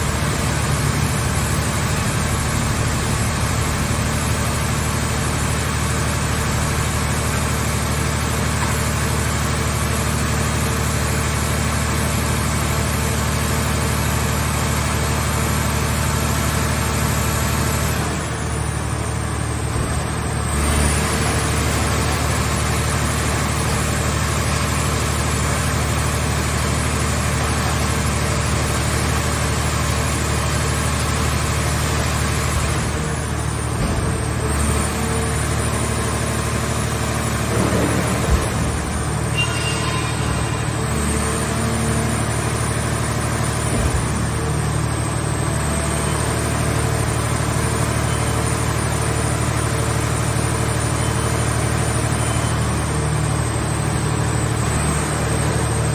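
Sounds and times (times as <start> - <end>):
baler engine running: 0.0 - 55.9.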